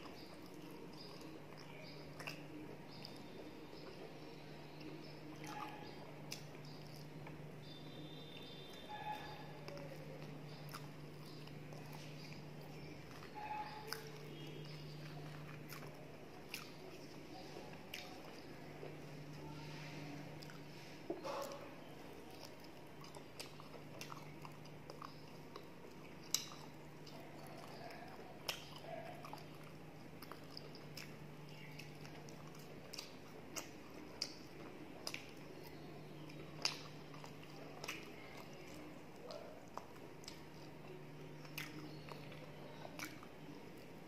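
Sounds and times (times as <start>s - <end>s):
close chewing and lip smacks: 0.0s - 44.0s
low steady hum: 0.0s - 44.0s.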